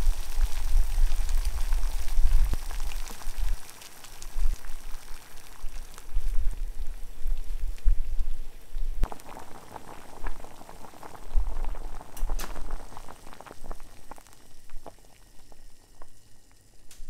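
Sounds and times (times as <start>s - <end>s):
water boiling in a pot: 0.0s - 17.0s.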